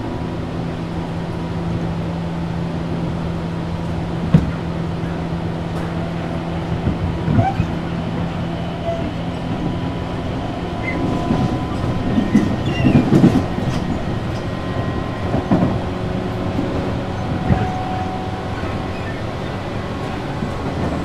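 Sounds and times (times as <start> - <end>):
electric train rumble and hum: 0.0 - 21.0.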